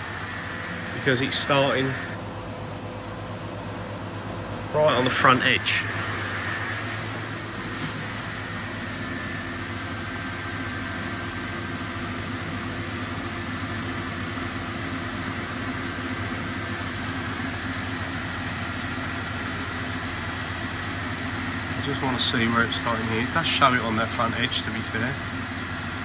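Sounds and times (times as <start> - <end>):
milling machine hum and whine: 0.0 - 26.0.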